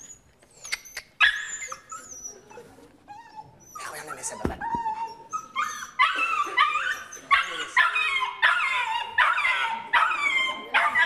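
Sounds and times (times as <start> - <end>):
dog yelping and howling: 1.2 - 11.0.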